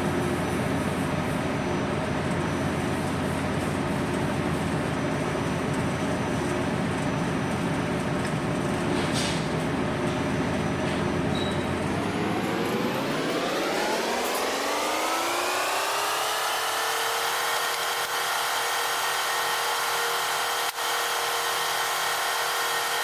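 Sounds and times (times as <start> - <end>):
ship machinery drone: 0.0 - 23.0.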